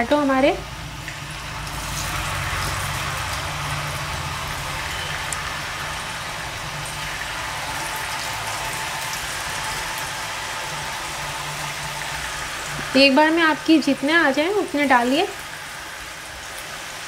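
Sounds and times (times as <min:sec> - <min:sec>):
potato sticks deep-frying in oil: 0:00.0 - 0:17.0.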